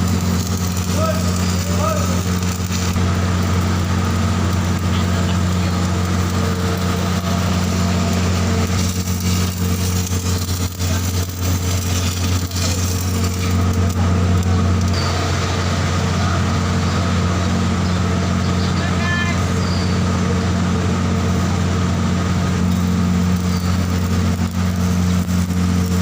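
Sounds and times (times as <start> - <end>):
low machine hum: 0.0 - 26.0
welding arc crackling hiss: 0.0 - 26.0.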